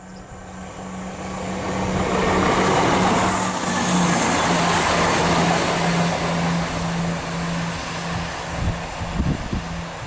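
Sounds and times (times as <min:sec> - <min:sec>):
train passing at speed: 0:00.0 - 0:10.0.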